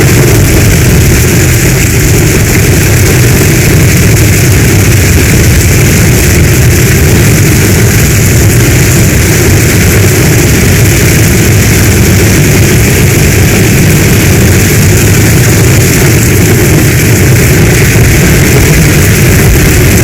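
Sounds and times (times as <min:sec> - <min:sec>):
deep low rumble: 0:00.0 - 0:20.0
heavy storm rain: 0:00.0 - 0:20.0.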